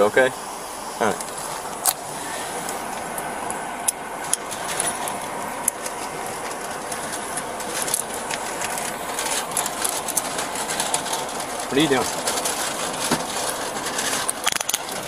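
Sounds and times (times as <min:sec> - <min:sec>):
vehicle idling: 0:00.0 - 0:15.0
small clicks and rustles: 0:02.6 - 0:15.0.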